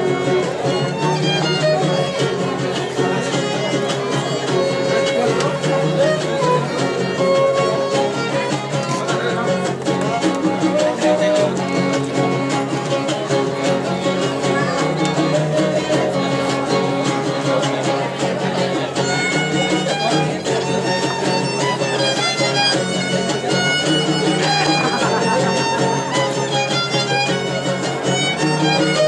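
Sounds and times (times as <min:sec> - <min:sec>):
bowed violin melody: 0:00.0 - 0:29.0
strummed guitar chords: 0:00.0 - 0:29.0.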